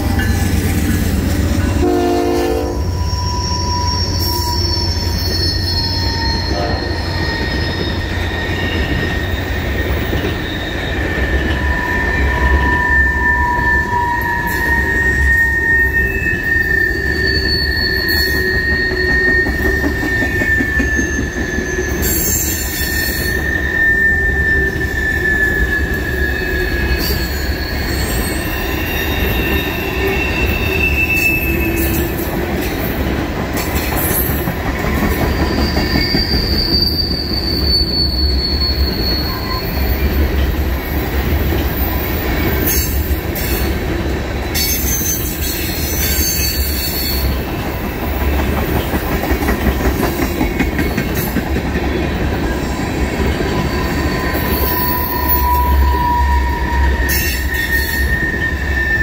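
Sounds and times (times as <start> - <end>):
high wheel squeals: 0.0 - 33.1, 33.7 - 59.0
train wheels rolling on rails: 0.0 - 59.0.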